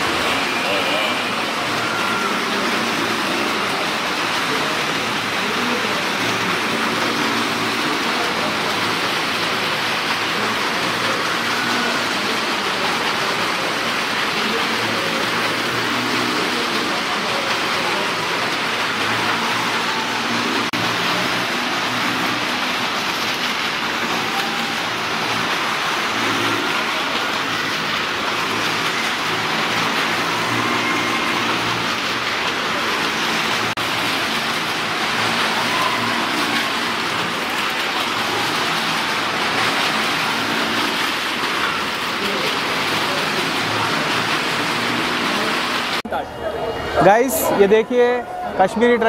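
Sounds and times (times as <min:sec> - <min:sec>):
motorcycle and car engines running: 0:00.0 - 0:46.0.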